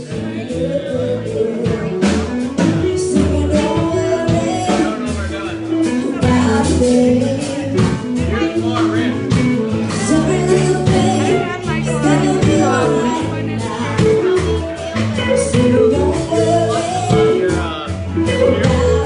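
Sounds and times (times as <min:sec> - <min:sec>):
bass guitar: 0:00.0 - 0:19.0
drums: 0:00.0 - 0:19.0
electric guitar: 0:00.0 - 0:19.0
person singing: 0:00.0 - 0:19.0.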